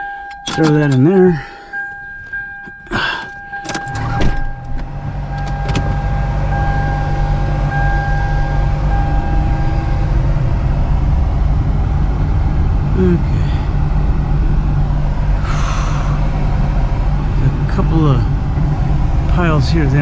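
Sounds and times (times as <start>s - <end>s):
car engine starting and running: 0.0s - 20.0s.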